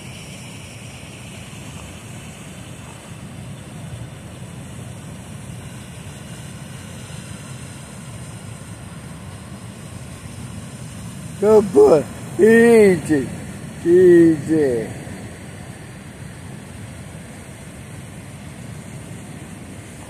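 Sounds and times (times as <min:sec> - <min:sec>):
fast-flowing river rumble: 0:00.0 - 0:20.0.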